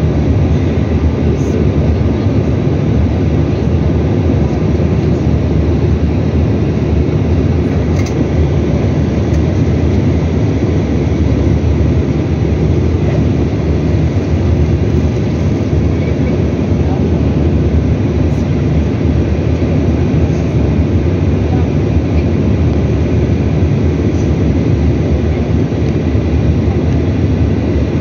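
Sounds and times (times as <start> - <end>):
jet cabin rumble: 0.0 - 28.0.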